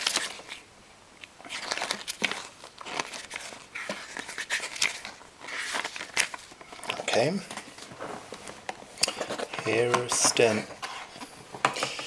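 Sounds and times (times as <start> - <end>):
paper pages rustling: 0.0 - 0.6, 1.4 - 11.9.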